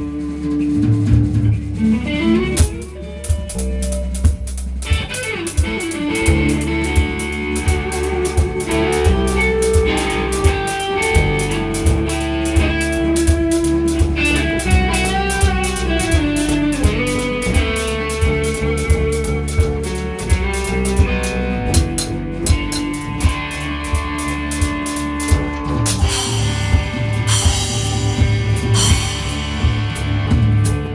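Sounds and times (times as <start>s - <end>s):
bass guitar: 0.0s - 30.9s
drum kit beat: 0.0s - 30.9s
electric guitar playing: 0.0s - 30.9s.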